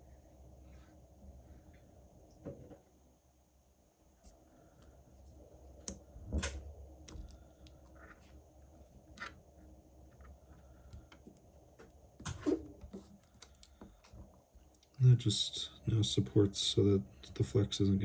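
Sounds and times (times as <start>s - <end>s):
faint high-pitched whine: 0.0s - 18.0s.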